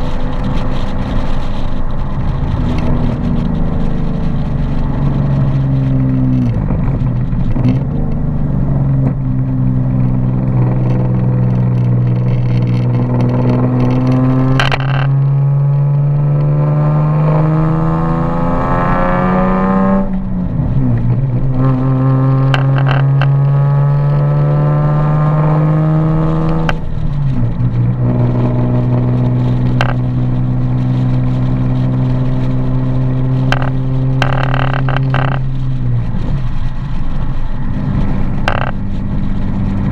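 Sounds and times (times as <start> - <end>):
sharp clicks and rattles: 0.0 - 16.5, 18.0 - 39.9
car engine accelerating: 0.0 - 39.9.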